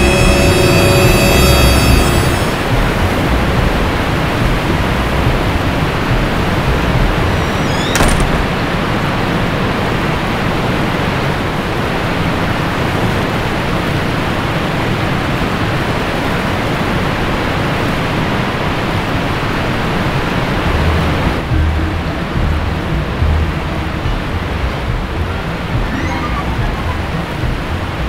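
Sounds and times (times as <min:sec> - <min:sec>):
rushing water: 0:02.4 - 0:28.0.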